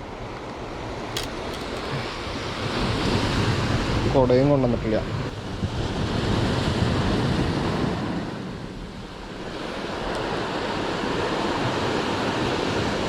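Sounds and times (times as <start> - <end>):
sea surf on beach: 0.0 - 13.0
wind buffeting microphone: 0.8 - 13.0.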